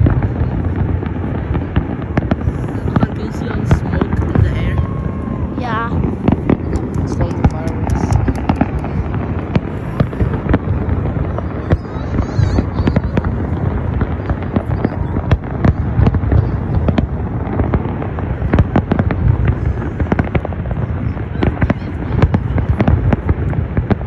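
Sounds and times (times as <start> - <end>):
fireworks crackling and banging: 0.0 - 24.0
low rumble: 0.0 - 24.0.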